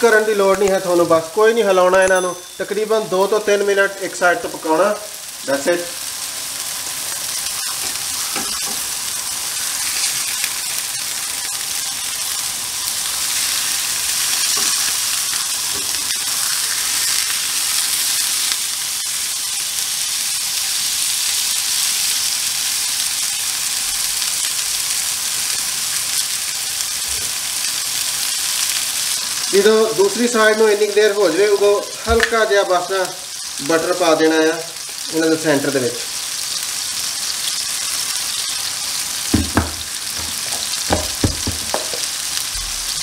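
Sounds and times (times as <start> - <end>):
patties sizzling in a grill pan: 0.0 - 43.0.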